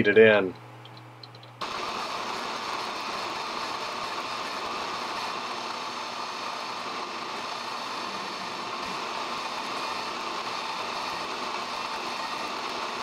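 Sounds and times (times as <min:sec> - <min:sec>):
lathe cutting metal: 0:01.6 - 0:13.0.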